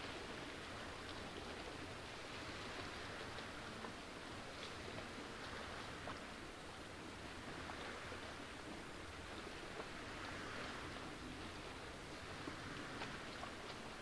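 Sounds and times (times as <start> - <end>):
ticks of water: 0.0 - 14.0
water lapping against boulders: 0.0 - 14.0.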